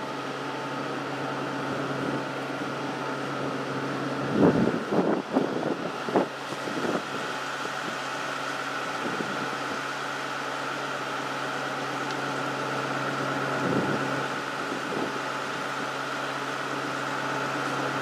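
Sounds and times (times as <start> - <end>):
constant high whine: 0.0 - 18.0.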